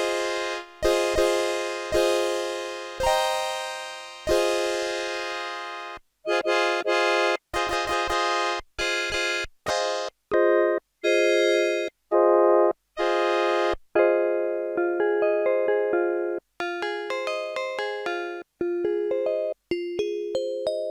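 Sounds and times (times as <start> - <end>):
keyboard playing chords: 0.0 - 19.6.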